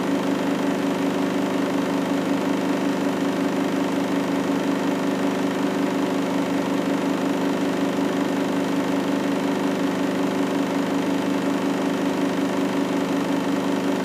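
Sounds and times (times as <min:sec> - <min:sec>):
washing machine hum: 0:00.0 - 0:14.0.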